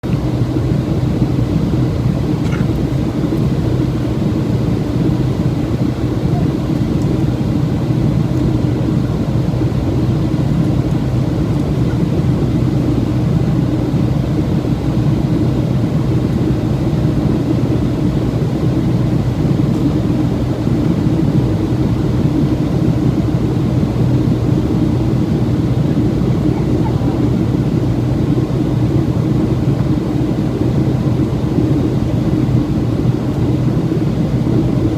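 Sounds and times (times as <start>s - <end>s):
airliner engines rumbling: 0.0s - 34.9s.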